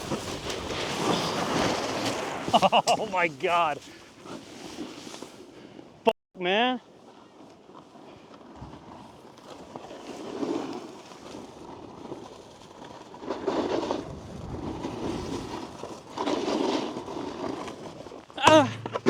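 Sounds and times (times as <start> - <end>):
snowboard scraping over snow: 0.0 - 5.9, 6.9 - 18.4.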